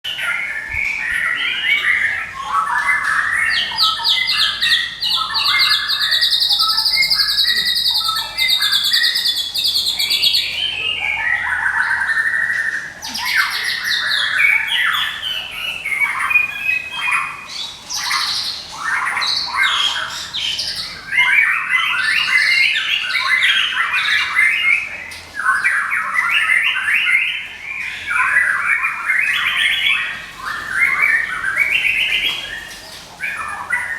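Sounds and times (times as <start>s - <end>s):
bird singing rapid chattering calls: 0.1s - 33.9s.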